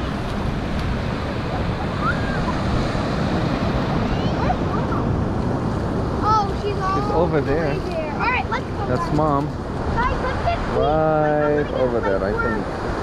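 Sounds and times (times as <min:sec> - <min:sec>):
ocean surf washing: 0:00.0 - 0:13.0
wind on microphone: 0:00.0 - 0:13.0.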